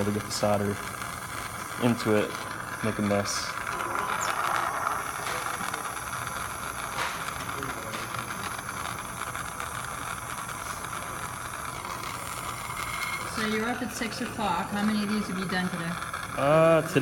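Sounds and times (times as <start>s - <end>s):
blow torch flame hissing: 0.0s - 17.0s.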